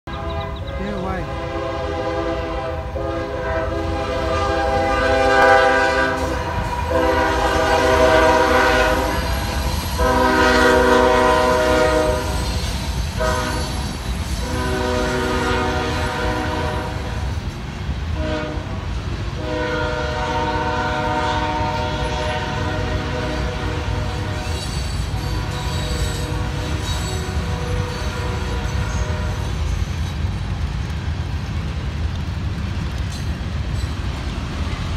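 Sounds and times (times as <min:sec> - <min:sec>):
locomotive air horn blasts: 0:00.1 - 0:12.6, 0:13.2 - 0:17.3, 0:18.1 - 0:29.6
train rumbling: 0:00.1 - 0:34.9.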